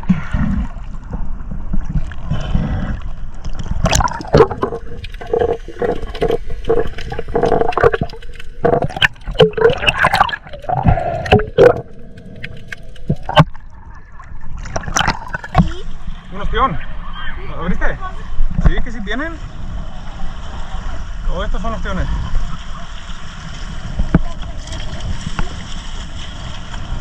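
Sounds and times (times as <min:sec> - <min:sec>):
water sloshing and gurgling: 0:00.0 - 0:27.0.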